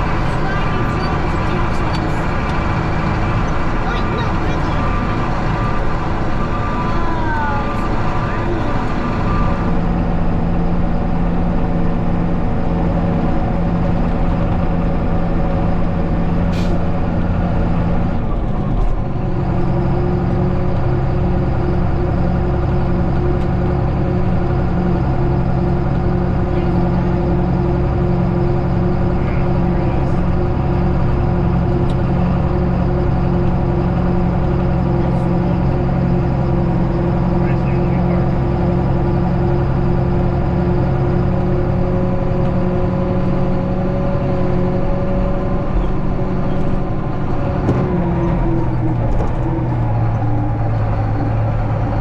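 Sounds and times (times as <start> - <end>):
farm vehicle engine running: 0.0 - 52.0.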